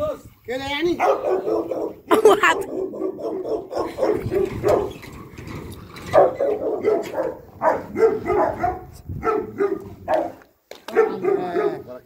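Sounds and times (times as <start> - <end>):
dog barking: 1.0 - 5.0, 6.1 - 12.0.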